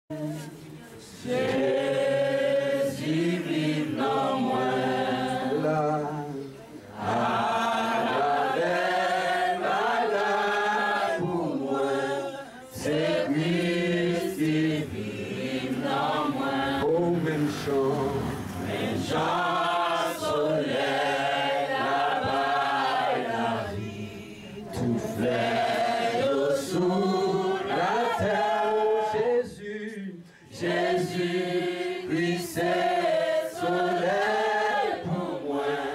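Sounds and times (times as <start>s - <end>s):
voices singing a hymn: 0.1s - 35.9s.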